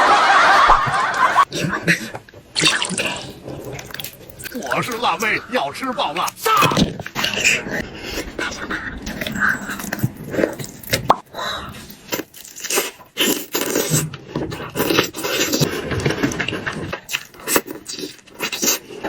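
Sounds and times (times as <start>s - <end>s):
person chewing food: 0.7s - 5.0s, 6.2s - 19.0s
slurps: 1.1s - 5.0s, 6.2s - 19.0s.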